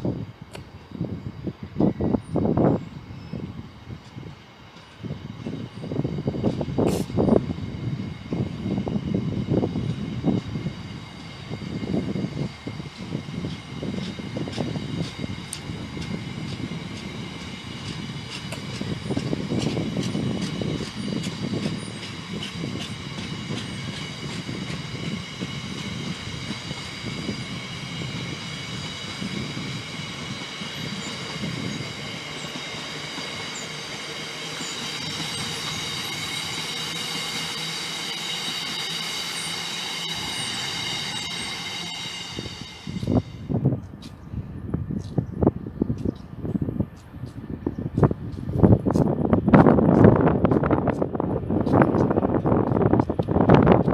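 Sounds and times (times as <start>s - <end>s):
train rumbling with clicking: 0.0s - 53.9s
high-pitched train squeal: 0.1s - 44.4s.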